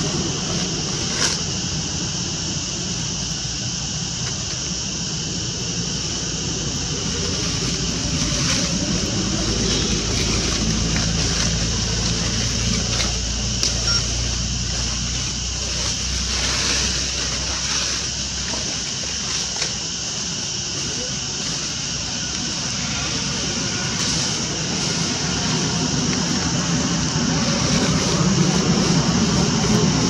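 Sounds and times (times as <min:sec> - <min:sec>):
outdoor background hiss: 0:00.0 - 0:30.0
vehicle engine rumble: 0:00.0 - 0:30.0.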